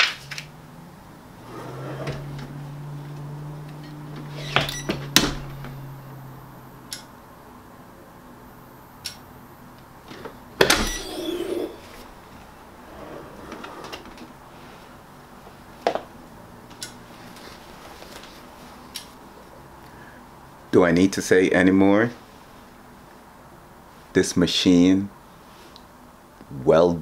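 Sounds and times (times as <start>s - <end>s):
low steady hum: 0.2s - 27.0s.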